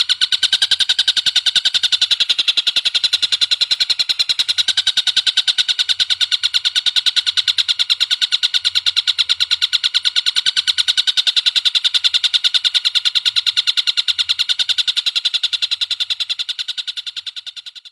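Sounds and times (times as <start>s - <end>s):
bird trilling: 0.0s - 17.9s.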